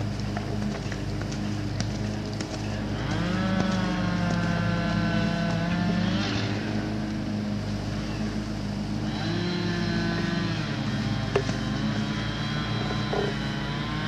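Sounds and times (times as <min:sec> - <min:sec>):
motor engine running: 0:00.0 - 0:14.0.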